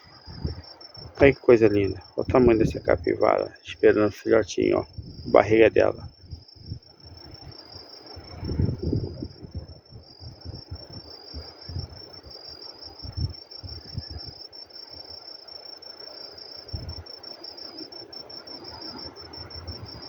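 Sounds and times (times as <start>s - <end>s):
night insects chirping: 0.0s - 20.0s.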